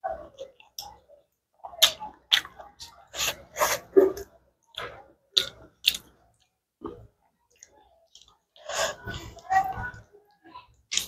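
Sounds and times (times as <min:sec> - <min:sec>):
close eating and chewing: 0:00.0 - 0:11.0.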